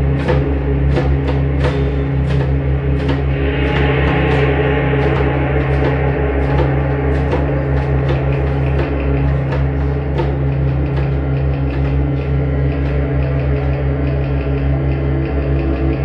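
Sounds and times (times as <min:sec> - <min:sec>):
drum strokes: 0:00.0 - 0:15.3
low bass notes: 0:00.0 - 0:16.0.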